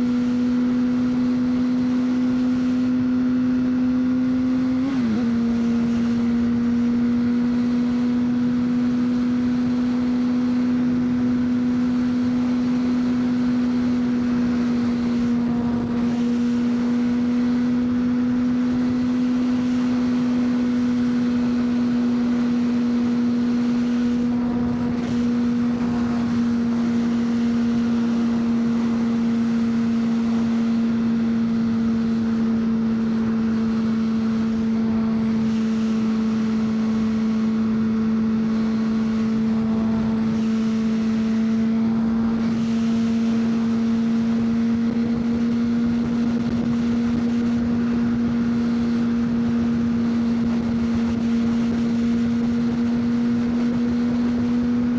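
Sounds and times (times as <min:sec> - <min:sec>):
motorcycle engine at steady revs: 0:00.0 - 0:54.9.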